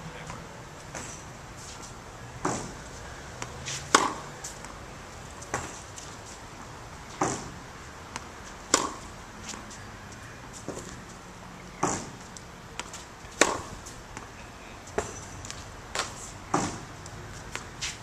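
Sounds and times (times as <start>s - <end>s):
tennis balls struck by rackets: 0.2s - 6.1s, 7.1s - 11.0s, 11.8s - 14.3s, 14.9s - 18.0s.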